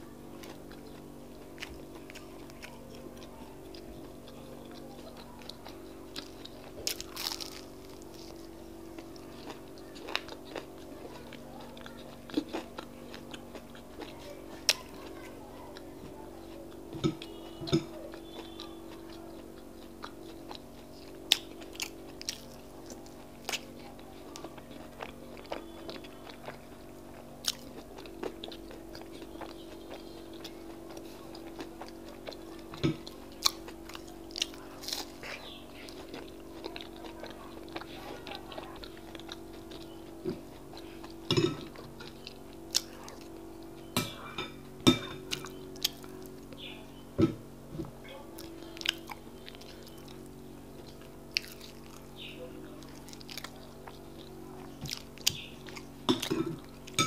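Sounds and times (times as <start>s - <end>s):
person chewing food: 0.0s - 57.0s
steady low hum: 0.0s - 57.0s.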